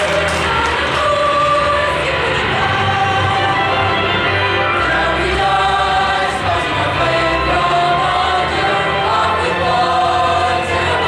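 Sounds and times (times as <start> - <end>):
choir singing: 0.0 - 11.0
musical accompaniment: 0.0 - 11.0.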